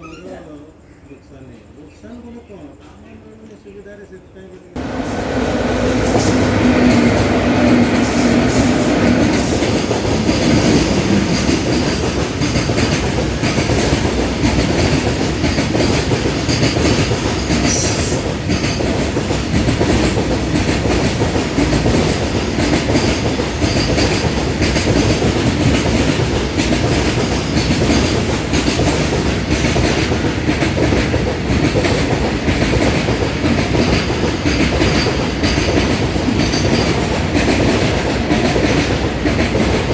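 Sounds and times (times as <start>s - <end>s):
train rumbling at speed: 4.8s - 39.9s
wheels clacking over rail joints: 4.8s - 39.9s.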